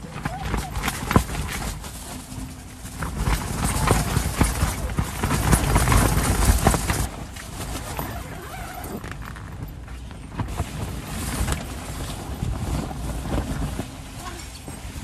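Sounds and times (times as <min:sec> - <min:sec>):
rain pattering on a tent: 0:00.0 - 0:15.0.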